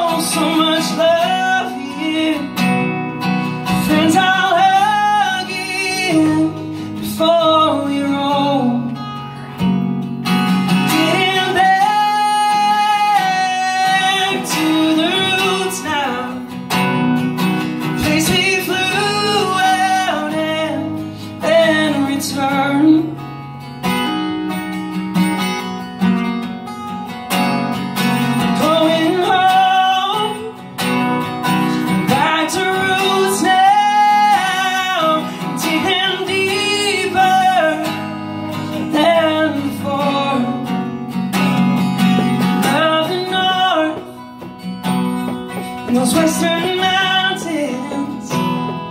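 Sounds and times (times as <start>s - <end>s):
man singing: 0.0s - 9.6s, 10.3s - 23.4s, 28.1s - 48.9s
acoustic guitar strumming: 0.0s - 48.9s.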